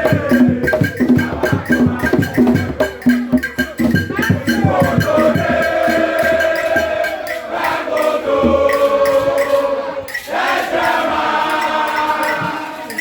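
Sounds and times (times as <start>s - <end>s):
group of voices chanting: 0.0s - 13.0s
steady beat of sharp strikes: 0.0s - 13.0s.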